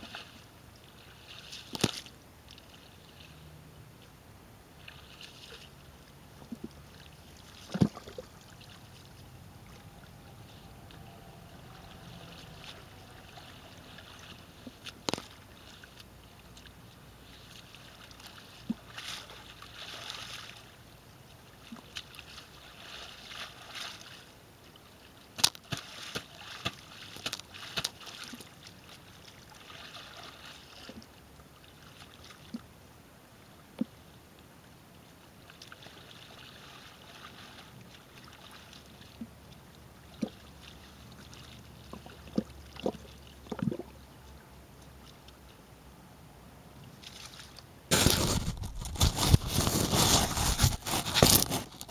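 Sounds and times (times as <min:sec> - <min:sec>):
puddle water sloshing and splashing: 0:00.0 - 0:03.6, 0:04.8 - 0:32.6, 0:35.5 - 0:44.0, 0:47.0 - 0:51.9.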